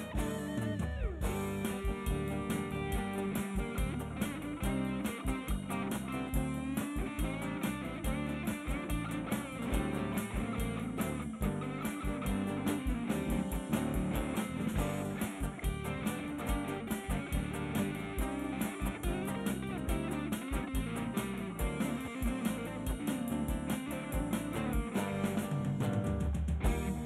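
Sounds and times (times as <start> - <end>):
instrumental rock band: 0.0 - 27.0.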